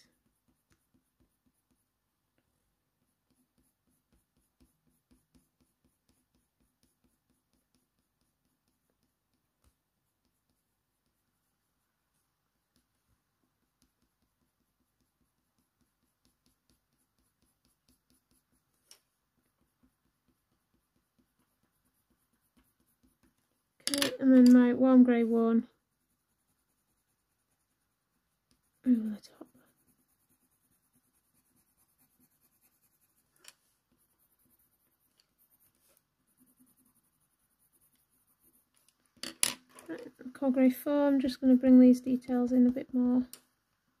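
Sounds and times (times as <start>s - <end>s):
pencil scratching on paper: 0.0s - 39.0s.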